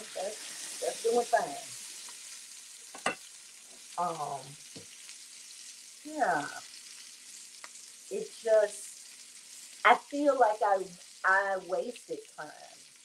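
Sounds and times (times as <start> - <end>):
peppers sizzling in frying pan: 0.0 - 13.0.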